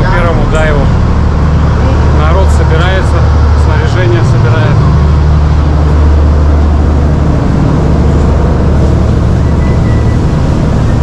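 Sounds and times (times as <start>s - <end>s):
rushing noise while riding: 0.0s - 11.0s
vehicle engine droning: 0.0s - 11.0s.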